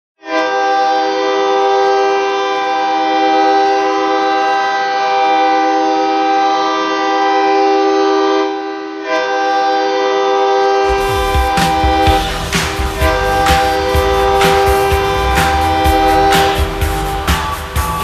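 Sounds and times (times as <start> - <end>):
goal horn blasting: 0.2 - 18.0.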